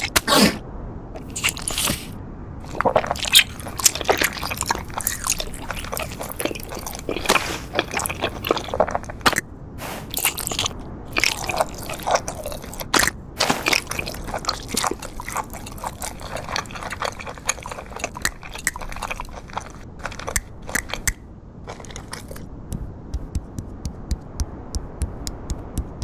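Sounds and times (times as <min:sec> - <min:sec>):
cartoon chewing and crunching: 0:00.0 - 0:00.6, 0:01.2 - 0:26.0.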